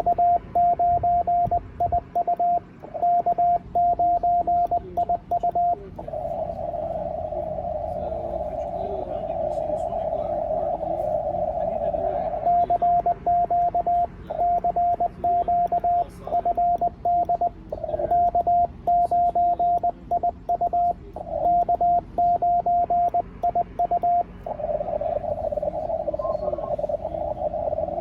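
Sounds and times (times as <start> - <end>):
morse code sidetone: 0.0 - 28.0
radio filter hiss: 0.0 - 28.0.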